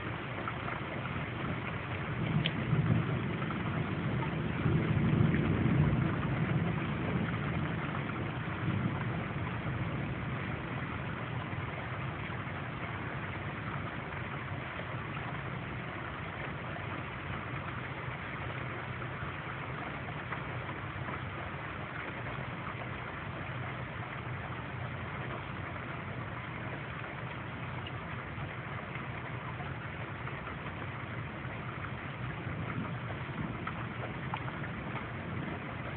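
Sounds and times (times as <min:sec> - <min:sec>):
thunder rumble: 0:00.0 - 0:35.9.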